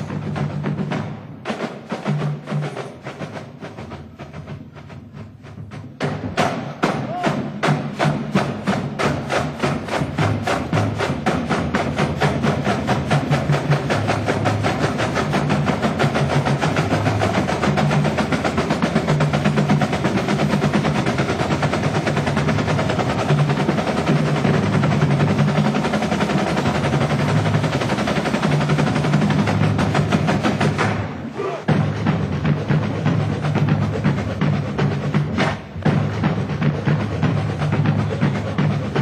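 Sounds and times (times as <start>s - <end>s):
snare drum beat: 0.0s - 39.0s.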